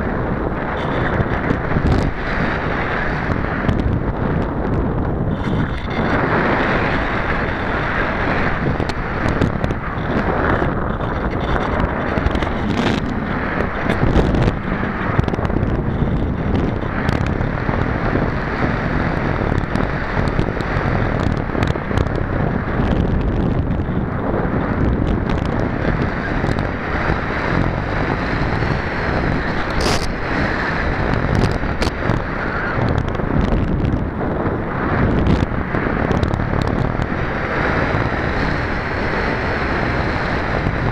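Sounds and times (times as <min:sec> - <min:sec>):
airflow rushing on microphone: 0:00.0 - 0:40.9.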